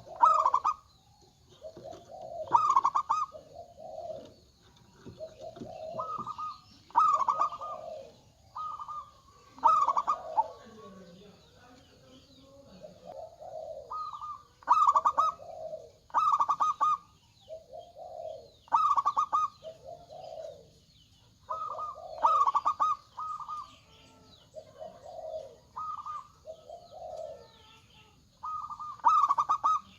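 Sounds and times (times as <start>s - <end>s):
dove stuttering cooing: 0.0s - 0.9s, 1.5s - 11.0s, 12.8s - 20.7s, 21.5s - 23.7s, 24.5s - 27.4s, 28.4s - 29.9s.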